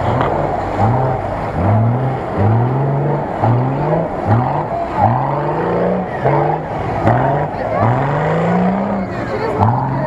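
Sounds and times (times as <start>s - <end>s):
van engine revving: 0.0s - 10.0s.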